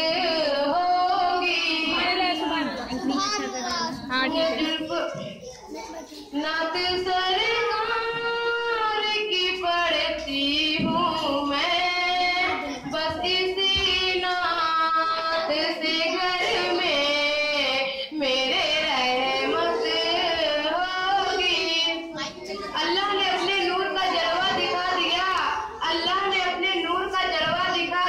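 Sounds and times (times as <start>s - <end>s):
girl singing into a microphone: 4.4s - 28.0s.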